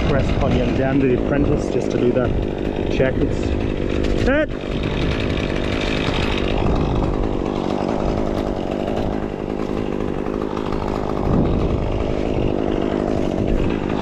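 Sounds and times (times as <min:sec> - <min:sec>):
chainsaw running: 0:00.0 - 0:14.0.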